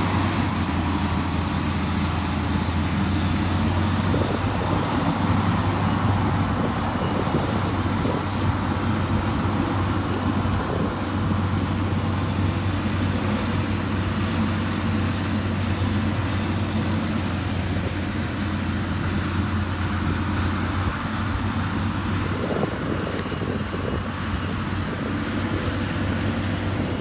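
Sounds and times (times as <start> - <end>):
heavy machine engine humming: 0.0 - 27.0.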